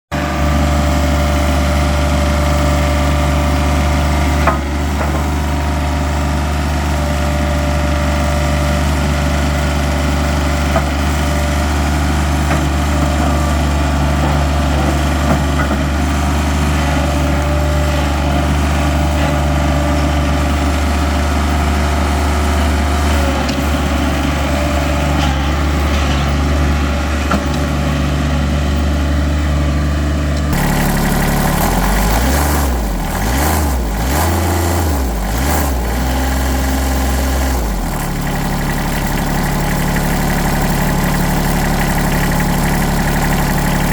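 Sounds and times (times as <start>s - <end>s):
engine droning steadily: 0.1s - 43.9s.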